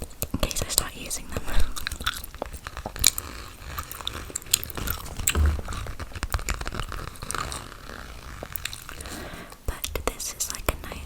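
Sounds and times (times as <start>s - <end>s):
gum chewing: 0.2s - 10.6s.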